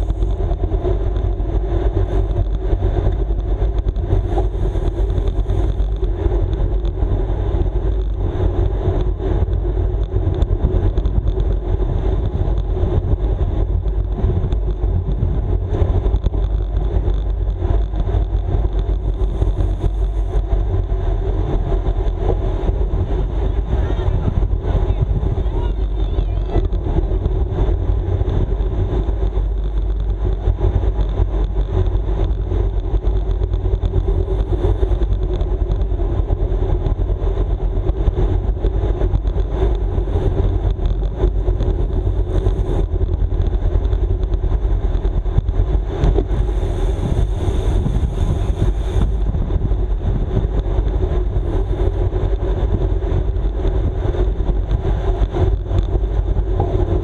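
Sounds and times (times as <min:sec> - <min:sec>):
bicycle tyre hum: 0:00.0 - 0:57.0
wind rushing over microphone: 0:00.0 - 0:57.0.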